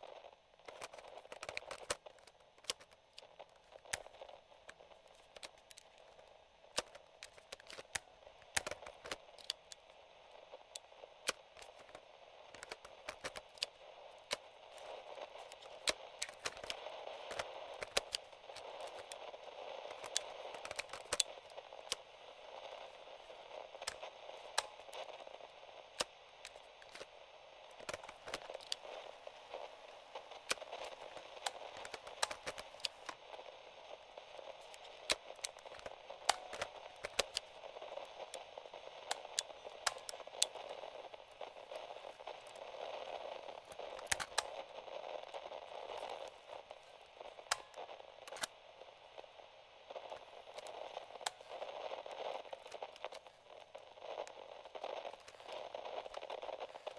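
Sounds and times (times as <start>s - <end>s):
radio static hiss: 0.0s - 56.9s
sharp crackles and clicks: 0.0s - 56.9s.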